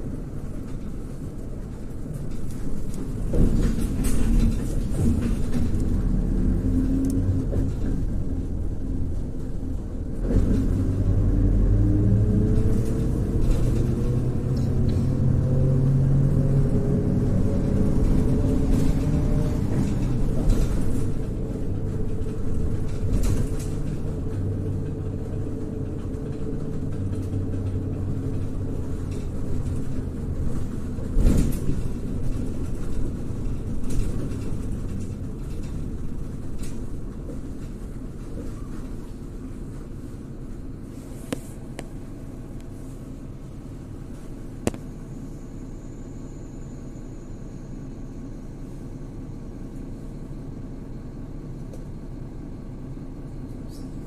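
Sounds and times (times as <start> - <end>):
bus engine running: 0.0 - 54.0
road rumble: 0.0 - 54.0.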